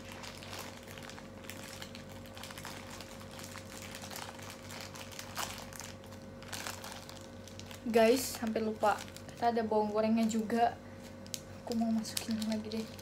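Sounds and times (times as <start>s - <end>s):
faint steady hum: 0.0s - 13.0s
plastic packet crinkling: 0.0s - 13.0s.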